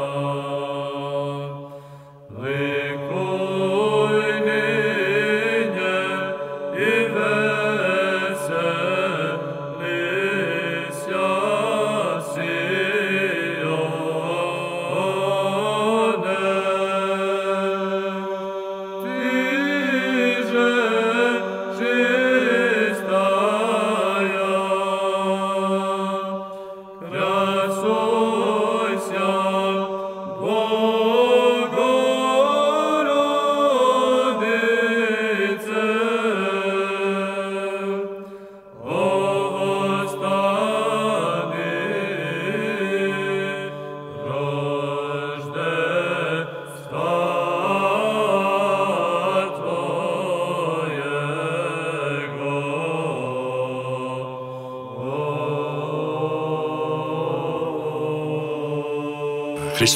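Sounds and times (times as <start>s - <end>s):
men singing chant over drone: 2.3s - 38.2s, 38.8s - 59.9s.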